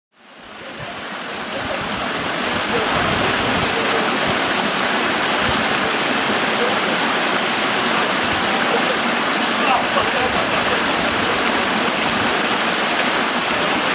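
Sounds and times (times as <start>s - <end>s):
waterfall rushing: 0.2s - 13.9s.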